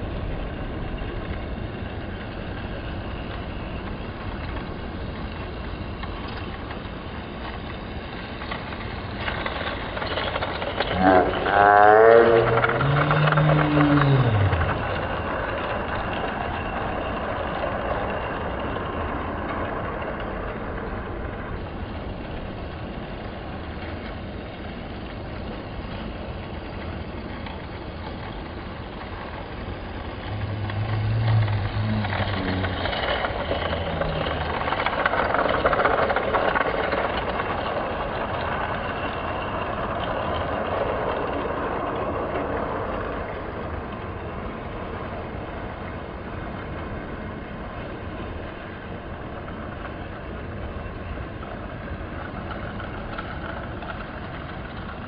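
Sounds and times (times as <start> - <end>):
low hum: 0.0 - 55.0
toy train droning: 0.0 - 55.0.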